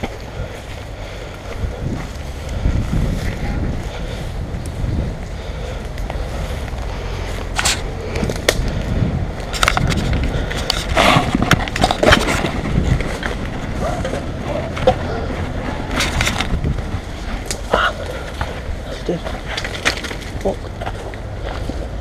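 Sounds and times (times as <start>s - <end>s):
leaves and twigs rustling: 0.0s - 22.0s
wind rumble on microphone: 0.0s - 22.0s.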